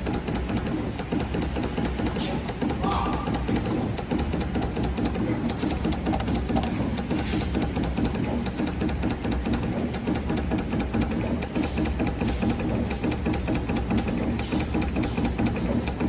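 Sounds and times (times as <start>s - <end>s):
machine humming with fast ticking: 0.0s - 16.0s.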